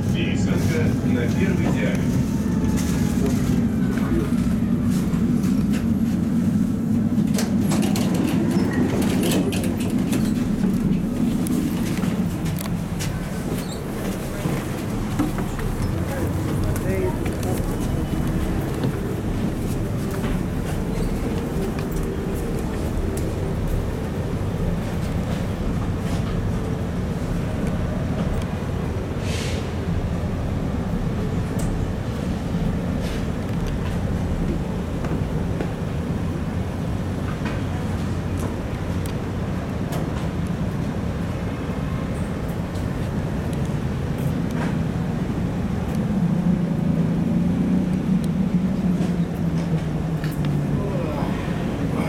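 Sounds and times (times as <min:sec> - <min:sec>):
tram wheels rumbling on rails: 0:00.0 - 0:52.0.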